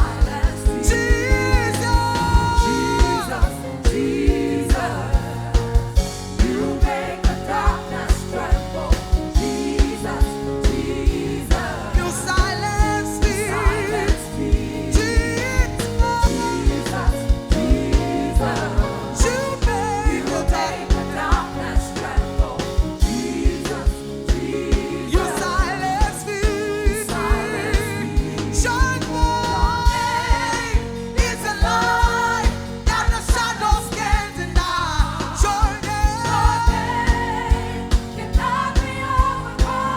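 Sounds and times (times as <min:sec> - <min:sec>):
steady drum beat: 0:00.0 - 0:39.9
worship band playing: 0:00.0 - 0:39.9.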